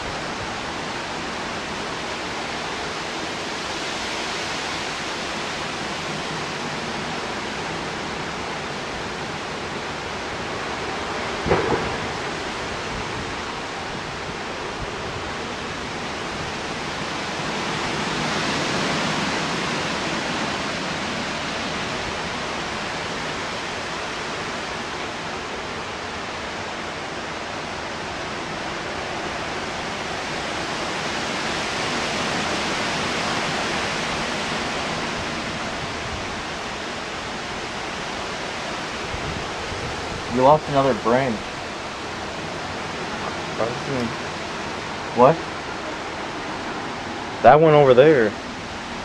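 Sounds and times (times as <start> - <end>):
rain: 0.0 - 49.0
wind in trees: 0.0 - 49.0.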